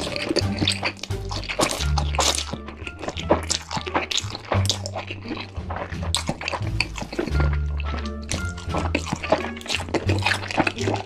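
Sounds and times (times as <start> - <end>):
background music with bass: 0.0 - 11.0
mouth chewing and slurping: 0.0 - 11.0.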